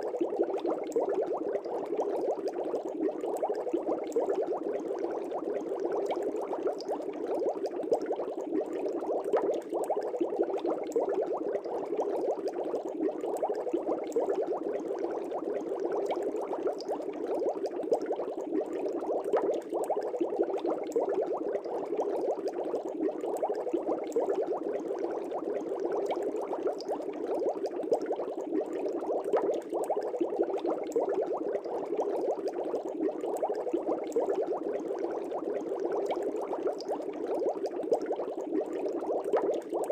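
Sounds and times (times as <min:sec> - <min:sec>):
aquarium air bubbles burbling: 0:00.0 - 0:39.9.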